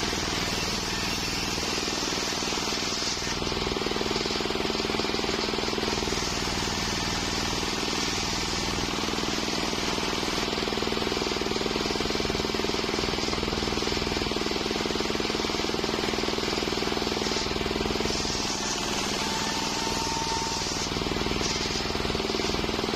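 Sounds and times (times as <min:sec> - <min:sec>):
circular sawmill sawing wood: 0:00.0 - 0:22.9.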